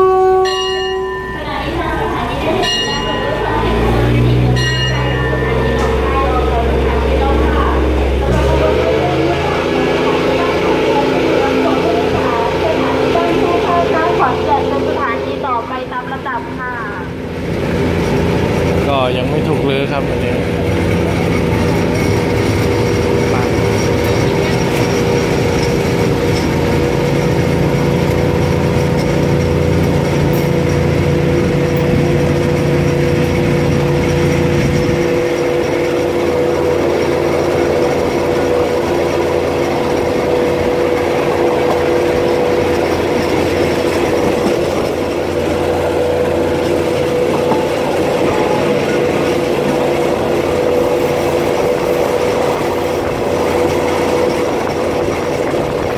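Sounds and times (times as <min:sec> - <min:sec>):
constant whine: 0:00.0 - 0:55.9
railcar engine drone: 0:00.0 - 0:55.9
wheels rumbling on rails: 0:00.0 - 0:55.9.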